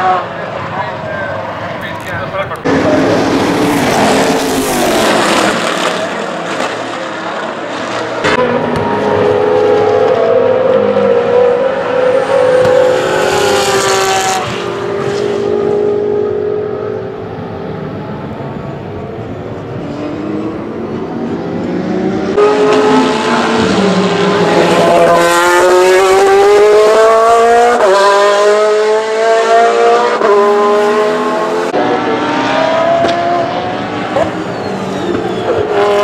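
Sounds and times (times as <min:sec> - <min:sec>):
race car engine at full throttle: 0:00.0 - 0:36.0
race car accelerating through upshifts: 0:02.6 - 0:36.0.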